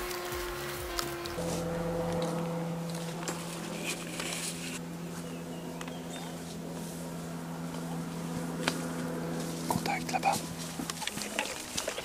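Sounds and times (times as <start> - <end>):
footsteps in undergrowth: 0.0 - 12.0
steady low hum: 0.0 - 12.0.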